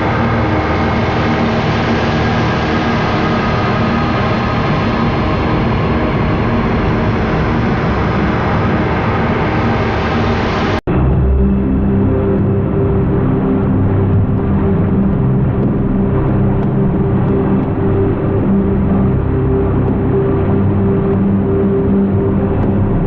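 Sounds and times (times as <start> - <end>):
dark ambient drone: 0.0 - 23.0
dull drone with low notes: 0.0 - 23.0.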